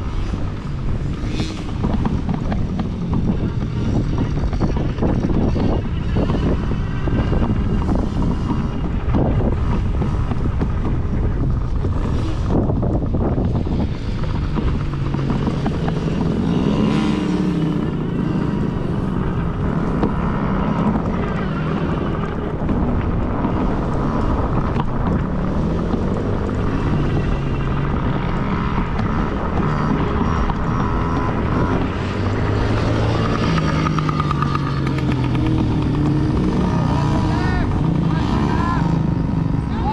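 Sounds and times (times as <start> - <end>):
dirt bike engines revving: 0.0 - 39.9
wind noise on microphone: 0.0 - 39.9.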